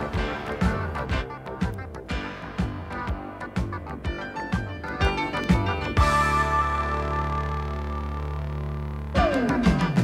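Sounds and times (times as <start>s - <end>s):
theme music with a beat: 0.0s - 10.0s.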